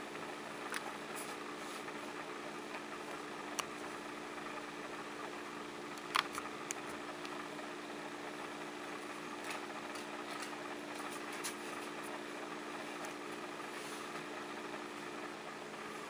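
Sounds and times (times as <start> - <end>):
furnace fan motor humming: 0.0 - 16.0.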